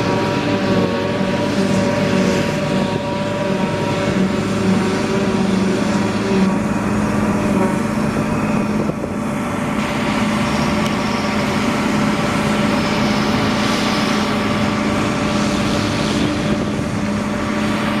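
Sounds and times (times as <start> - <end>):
diesel machinery engine running: 0.0 - 18.0.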